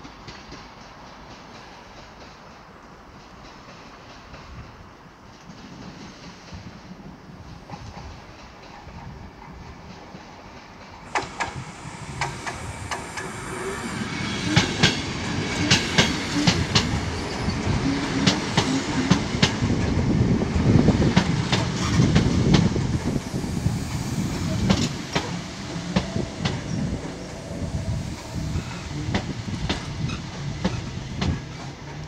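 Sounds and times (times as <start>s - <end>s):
train low rumble: 0.0s - 32.0s
train wheels clicking over rail joints: 0.0s - 32.0s.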